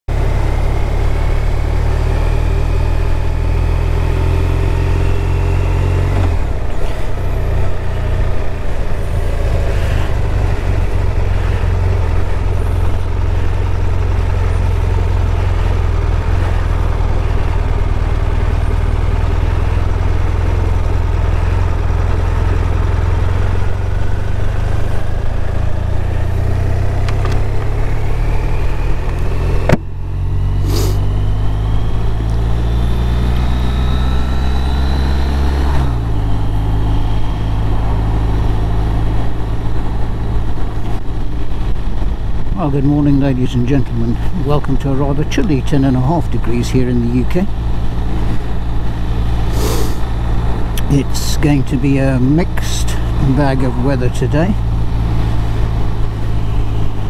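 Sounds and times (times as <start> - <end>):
motorcycle engine running: 0.1 - 57.0.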